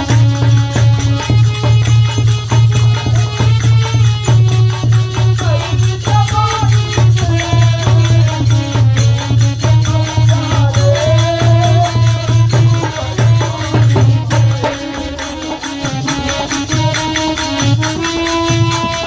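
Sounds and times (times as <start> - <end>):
pulsing low drum beat: 0.0 - 19.0.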